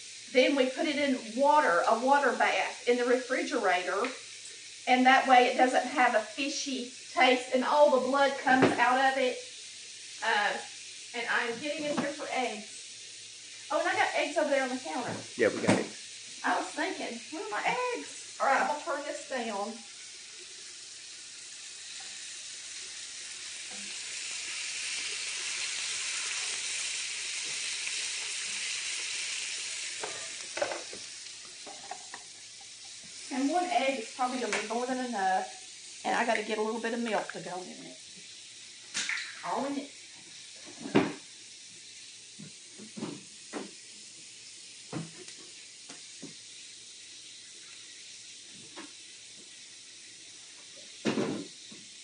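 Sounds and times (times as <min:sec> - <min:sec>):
food sizzling in frying pan: 0:00.0 - 0:52.0.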